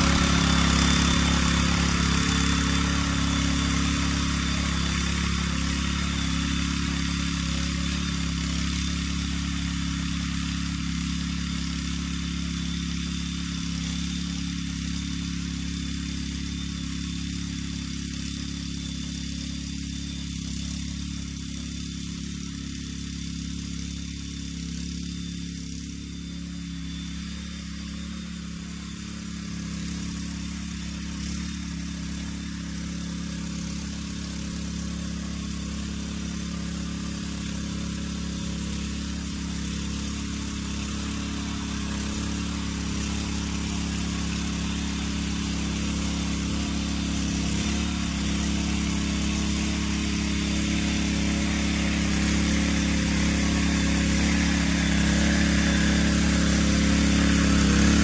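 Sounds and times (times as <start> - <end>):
tiller engine running: 0.0 - 58.0.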